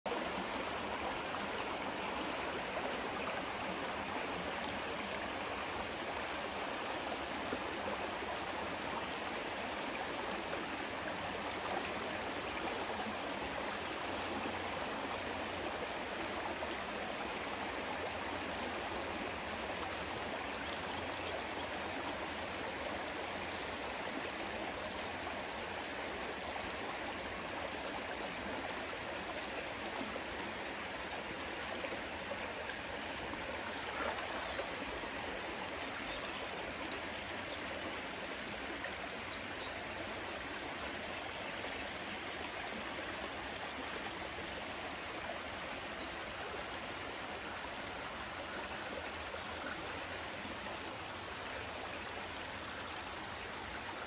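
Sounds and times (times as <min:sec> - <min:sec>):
stream rushing over rocks: 0:00.1 - 0:54.0.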